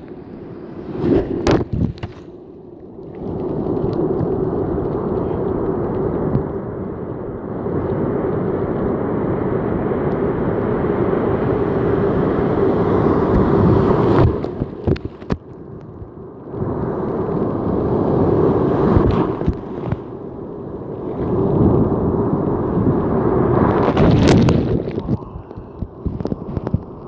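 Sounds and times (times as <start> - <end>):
wind rumbling on microphone: 0.0 - 27.0
surf breaking and washing: 3.0 - 27.0.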